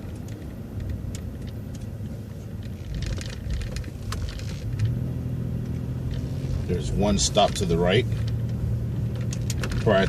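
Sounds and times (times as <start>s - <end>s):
light rattles and clicks: 0.0s - 5.0s, 5.6s - 10.0s
bus engine hum: 0.0s - 10.0s
road noise: 0.0s - 10.0s.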